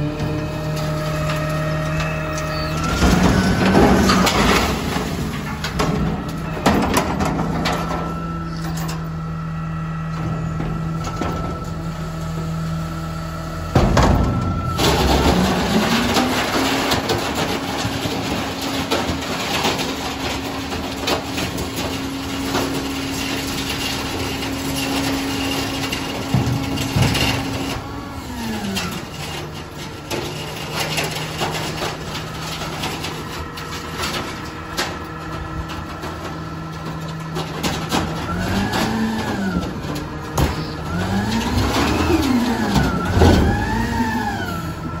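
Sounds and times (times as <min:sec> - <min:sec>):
garbage truck engine idling: 0:00.0 - 0:45.0.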